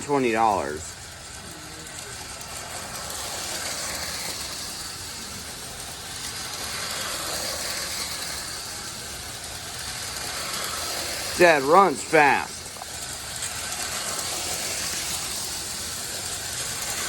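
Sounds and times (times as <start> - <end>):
electric motor humming: 0.0 - 17.0
toy train wheels rattling on rails: 0.0 - 17.0.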